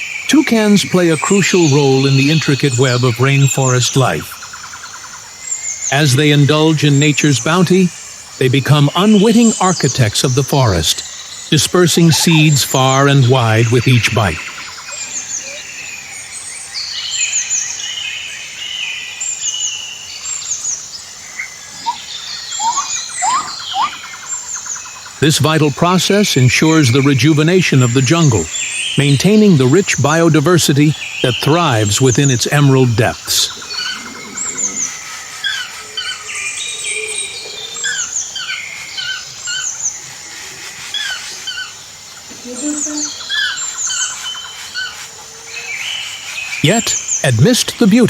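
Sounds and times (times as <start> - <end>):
rising whistled bird calls: 0.0 - 41.8
birds chirping: 0.0 - 48.0
insect hiss: 0.0 - 48.0.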